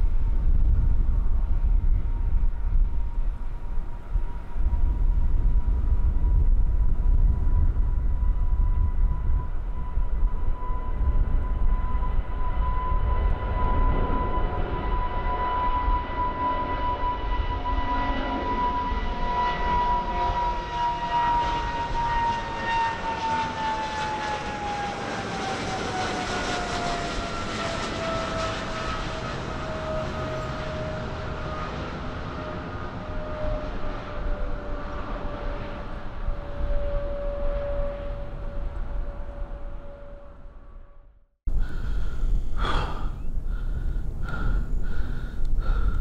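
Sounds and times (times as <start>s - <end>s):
jet engines roaring and whining: 0.0s - 46.0s.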